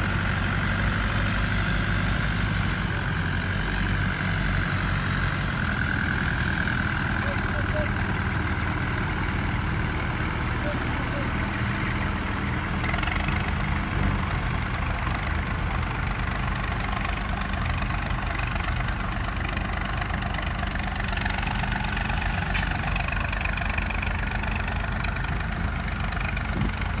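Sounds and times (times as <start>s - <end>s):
heavy vehicle engine idling: 0.0s - 27.0s.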